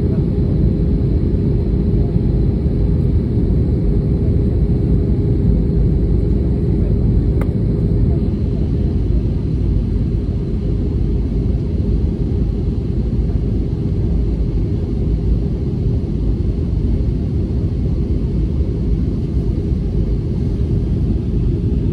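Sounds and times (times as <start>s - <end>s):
jet engine cabin rumble: 0.0s - 21.9s.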